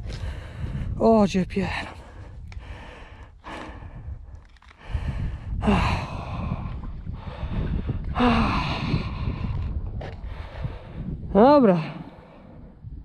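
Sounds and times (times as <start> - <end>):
low rumble: 0.0 - 13.0
man breathing heavily and sighing: 1.7 - 12.8.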